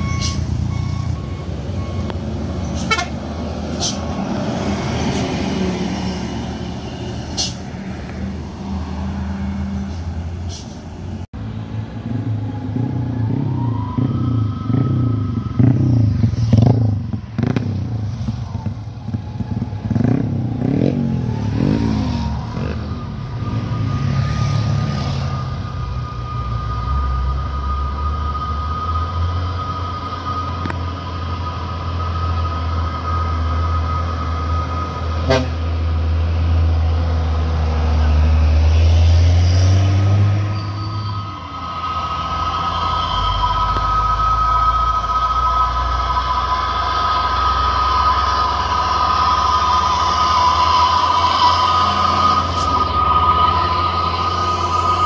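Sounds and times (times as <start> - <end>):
diesel truck engines revving: 0.0 - 55.0.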